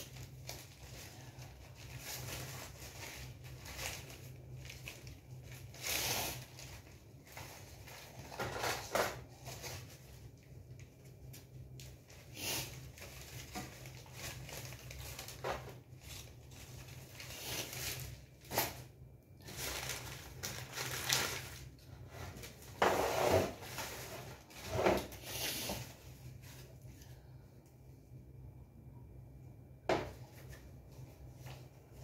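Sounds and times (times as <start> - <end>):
paper rustling and crinkling: 0.0 - 27.3
faint low hum: 0.0 - 32.0.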